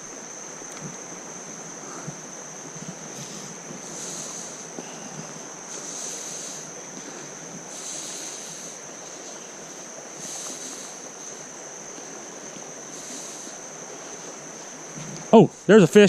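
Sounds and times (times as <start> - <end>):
creek water running over rocks: 0.0 - 16.0
high hiss: 0.0 - 16.0.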